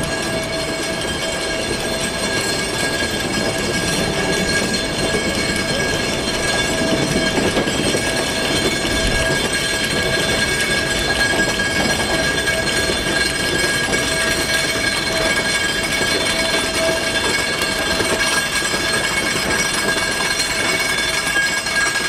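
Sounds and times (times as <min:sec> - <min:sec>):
steam locomotive working past: 0:00.0 - 0:22.0.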